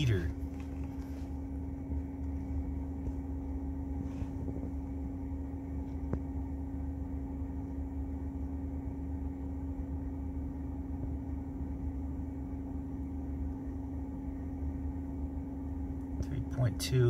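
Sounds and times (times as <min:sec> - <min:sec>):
car climate control humming: 0:00.0 - 0:17.0.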